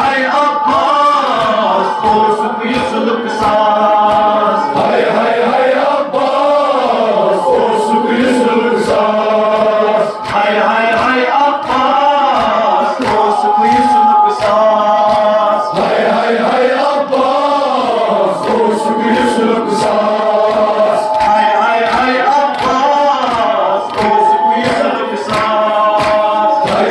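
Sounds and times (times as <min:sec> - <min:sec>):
men chanting a lament: 0:00.0 - 0:26.9
steady beat: 0:00.0 - 0:26.9.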